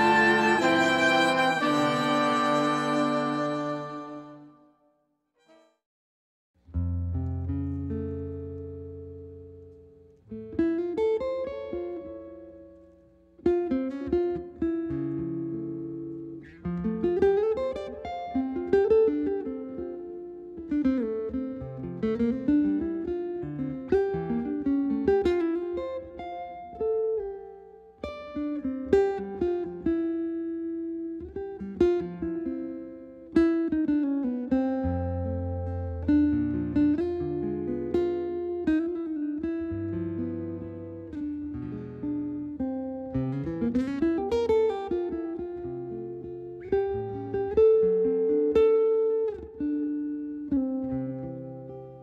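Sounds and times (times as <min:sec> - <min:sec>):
guitar playing: 0:00.0 - 0:04.9, 0:06.7 - 0:52.0.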